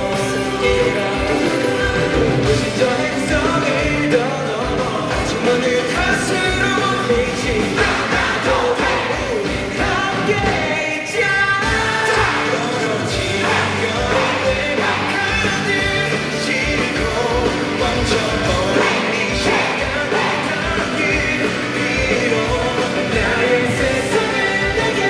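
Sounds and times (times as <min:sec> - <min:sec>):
live pop-rock band playing: 0:00.0 - 0:25.0
male voice singing: 0:00.0 - 0:25.0.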